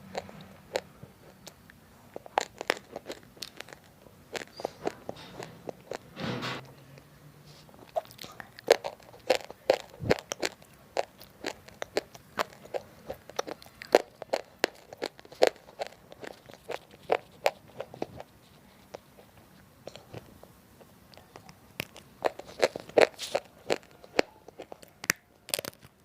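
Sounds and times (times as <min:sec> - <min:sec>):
person chewing crunchy chips: 0:00.0 - 0:06.1, 0:07.7 - 0:19.3, 0:21.1 - 0:26.0.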